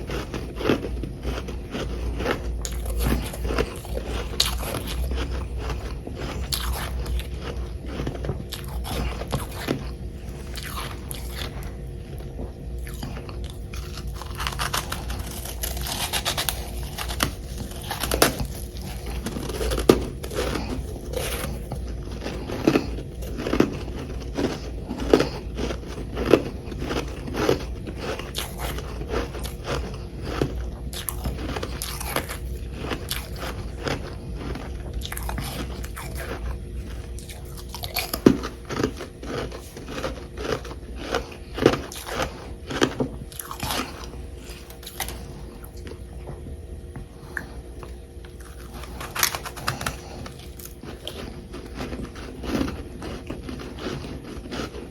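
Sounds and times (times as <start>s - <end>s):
crunchy ice chewing: 0.0s - 46.2s, 47.3s - 54.9s.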